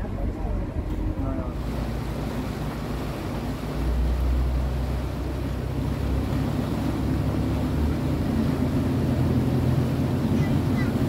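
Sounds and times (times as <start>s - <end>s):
ferry engine drone: 0.0s - 11.0s
water rushing: 0.0s - 11.0s
wind: 0.0s - 11.0s.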